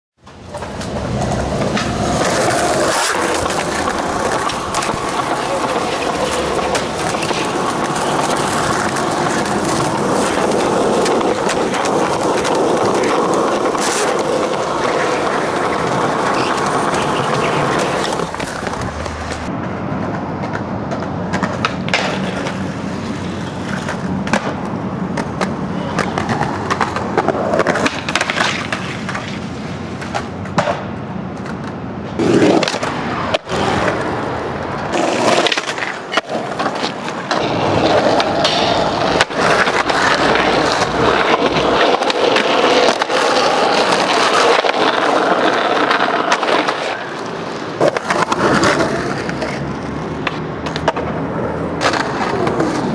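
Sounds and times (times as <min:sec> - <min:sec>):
skateboard clacking on ground: 0:00.2 - 0:52.9
skateboard wheels rolling on concrete: 0:00.2 - 0:52.9.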